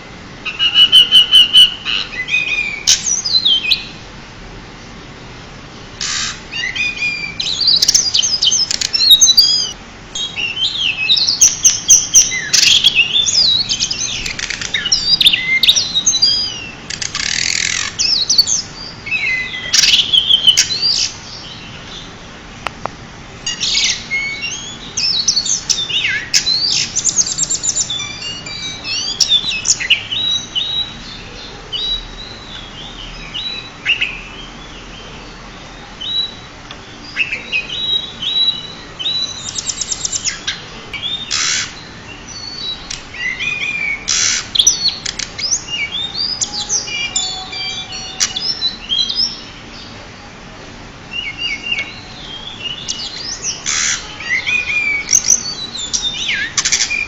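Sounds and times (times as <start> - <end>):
bird singing chirps and trills: 0.0 - 4.0, 5.8 - 22.7, 23.3 - 50.3, 51.0 - 57.0.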